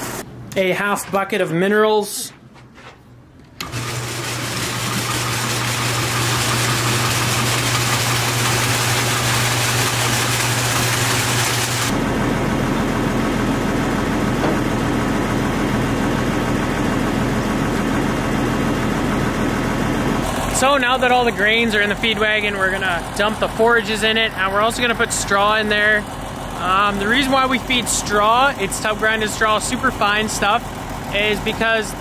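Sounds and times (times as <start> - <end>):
tractor diesel engine running: 3.6 - 32.0
deeper hum: 4.7 - 32.0.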